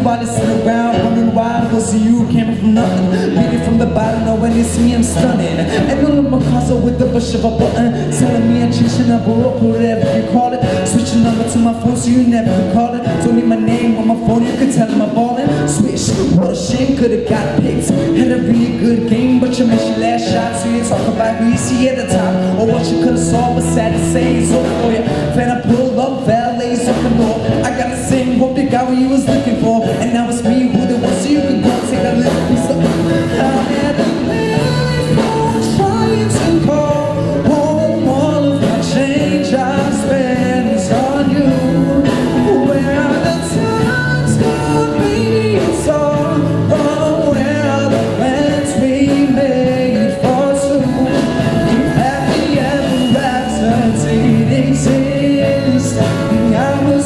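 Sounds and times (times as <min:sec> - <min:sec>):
drums: 0:00.0 - 0:57.0
guitar: 0:00.0 - 0:57.0
person singing: 0:00.0 - 0:57.0.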